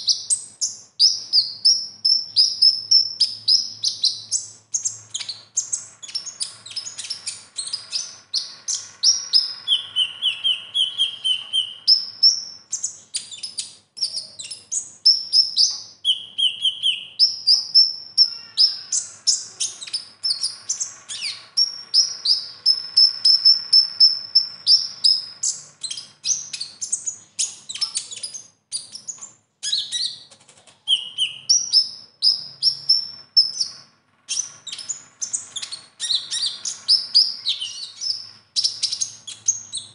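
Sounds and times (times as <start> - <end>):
sunbird singing chirps and trills: 0.0 - 30.2, 30.9 - 39.9.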